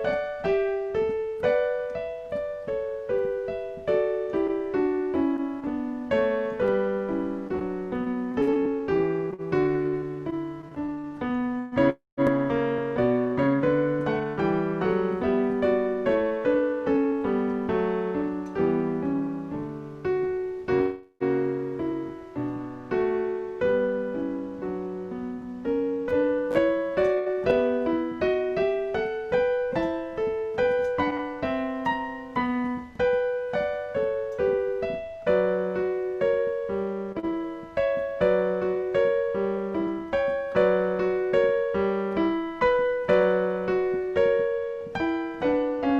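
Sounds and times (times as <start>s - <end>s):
solo piano piece: 0.0s - 45.9s.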